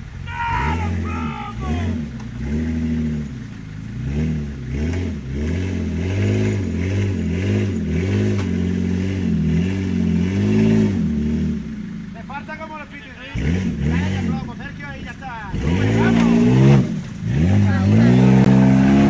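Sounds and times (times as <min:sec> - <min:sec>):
engine revving under load: 0:00.0 - 0:19.0.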